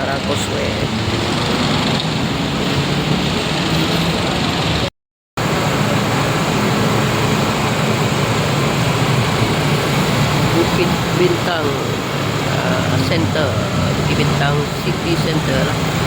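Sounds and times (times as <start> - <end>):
vehicle interior running noise: 0.0 - 16.0.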